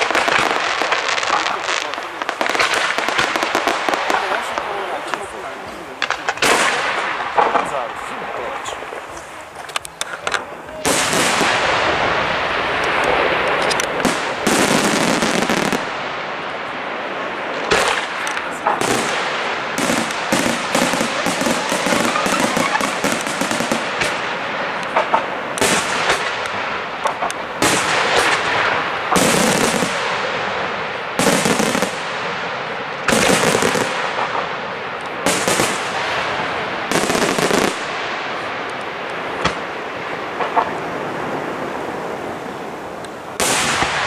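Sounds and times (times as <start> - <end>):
firework bangs: 0.0 - 44.0
firework crackle: 0.0 - 44.0.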